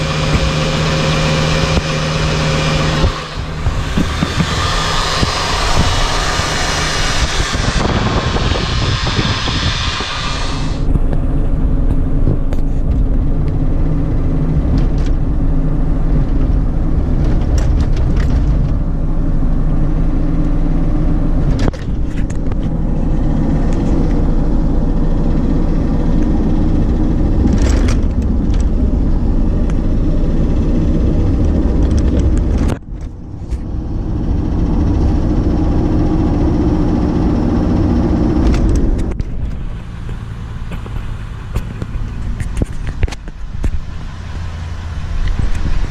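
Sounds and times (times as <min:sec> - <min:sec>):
engine running with ticking: 0:00.0 - 0:45.9.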